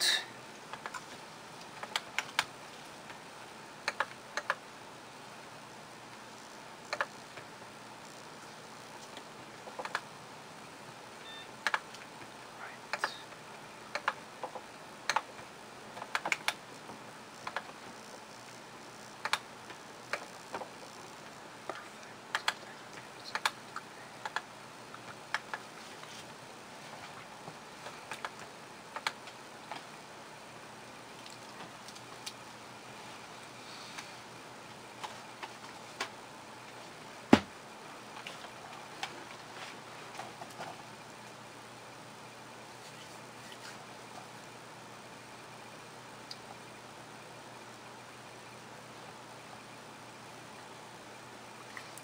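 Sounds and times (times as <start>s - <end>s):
steady low hiss: 0.0s - 52.0s.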